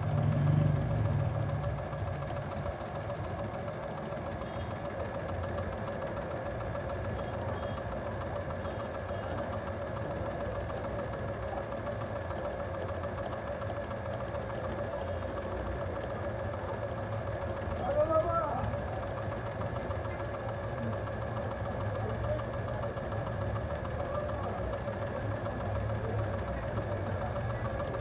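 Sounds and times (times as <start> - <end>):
sewing machine running: 0.0 - 28.0.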